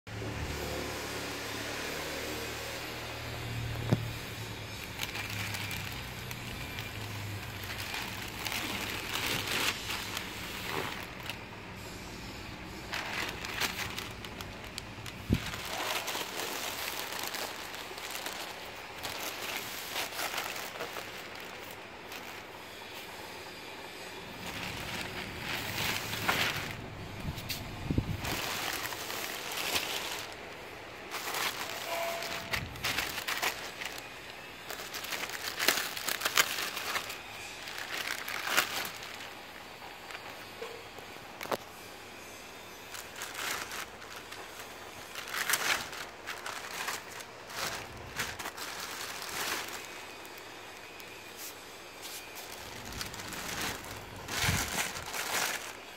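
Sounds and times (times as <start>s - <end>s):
plastic bag crinkling: 2.7s - 23.2s, 24.2s - 41.8s, 42.8s - 55.9s.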